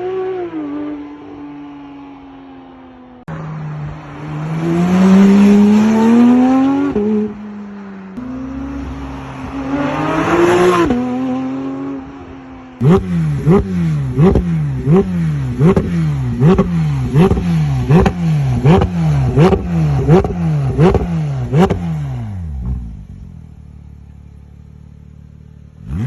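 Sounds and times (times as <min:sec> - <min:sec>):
car engine accelerating: 0:03.2 - 0:26.0.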